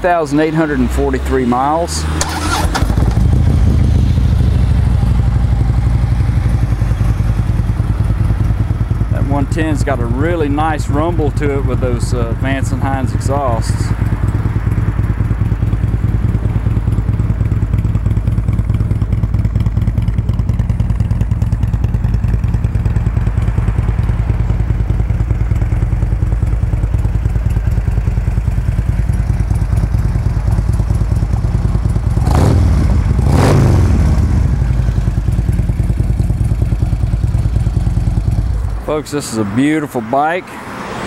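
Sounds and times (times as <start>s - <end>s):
motorcycle engine revving: 0.5s - 41.0s
motorcycle engine idling: 2.2s - 39.4s.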